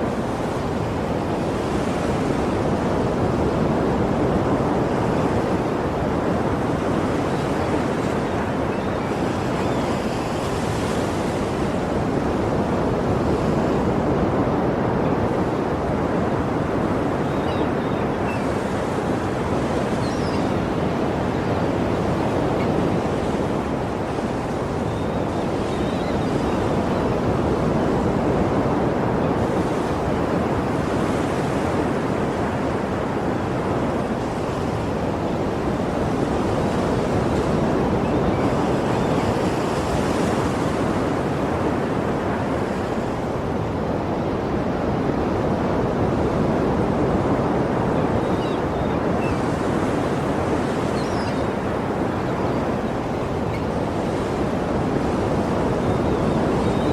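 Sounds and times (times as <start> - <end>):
ocean surf washing: 0.0 - 56.9.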